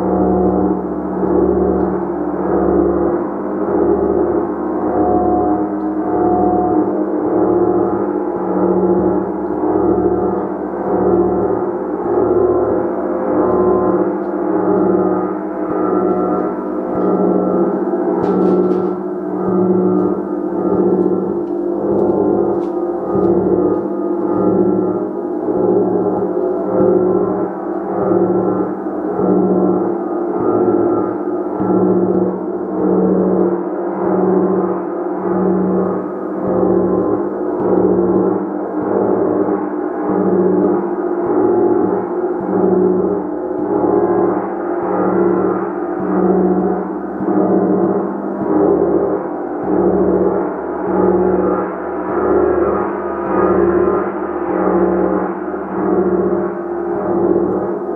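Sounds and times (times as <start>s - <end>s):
gong ringing: 0.0s - 57.9s.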